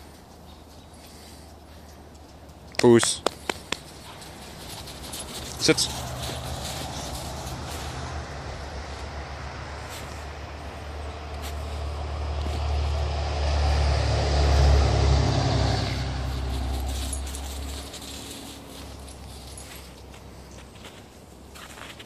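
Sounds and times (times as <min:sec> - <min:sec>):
vehicle passing by: 0:00.0 - 0:21.9.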